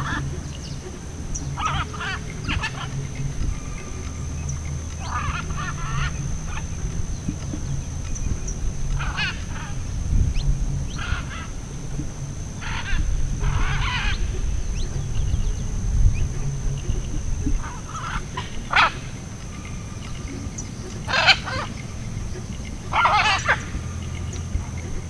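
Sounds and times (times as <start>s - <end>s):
parrot squawking: 0.0s - 15.6s, 17.5s - 19.9s, 20.5s - 24.8s
low rumble: 0.0s - 25.0s.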